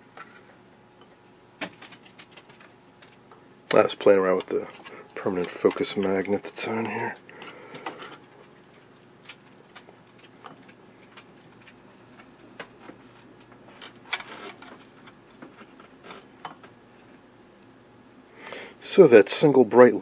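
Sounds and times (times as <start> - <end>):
television high-pitched whine: 0.0 - 20.0.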